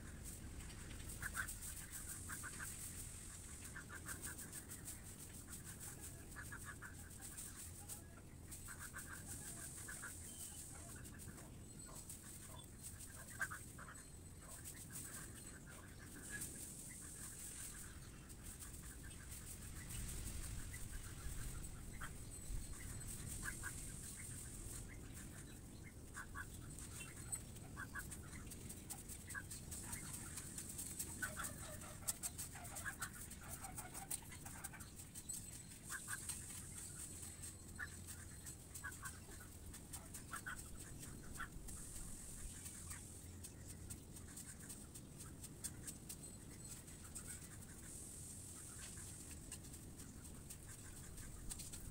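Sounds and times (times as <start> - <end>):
birds calling: 0.0 - 51.9
broom scratching on dirt: 0.0 - 51.9
steady high hiss: 0.0 - 51.9.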